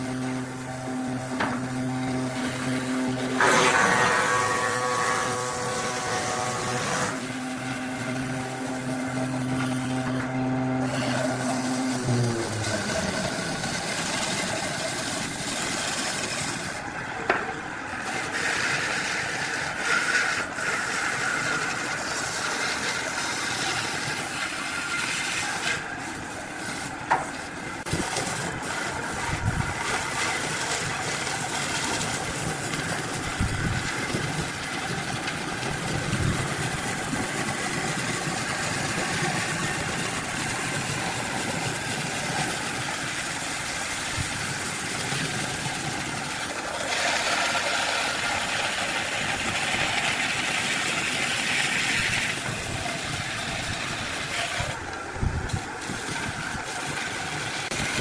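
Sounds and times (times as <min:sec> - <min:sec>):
lathe motor humming: 0:00.0 - 0:58.0.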